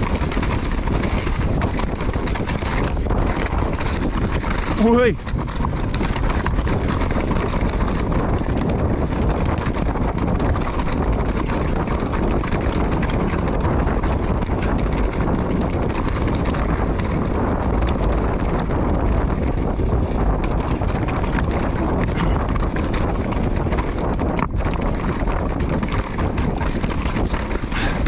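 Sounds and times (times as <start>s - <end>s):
mountain bike rattling over stones: 0.0s - 28.0s
wind buffeting microphone: 0.0s - 28.0s.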